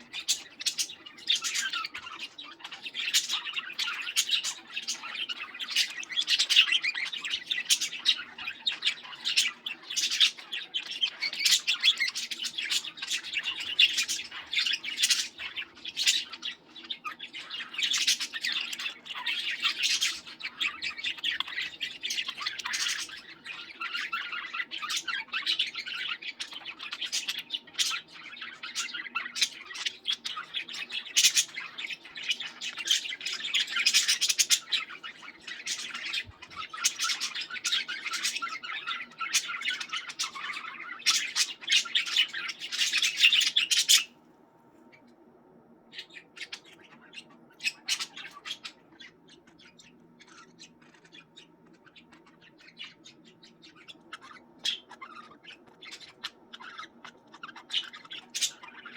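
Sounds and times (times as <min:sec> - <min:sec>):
budgerigars chattering and squawking: 0:00.0 - 0:44.2, 0:45.9 - 0:58.9
faint steady hum: 0:00.0 - 0:58.9.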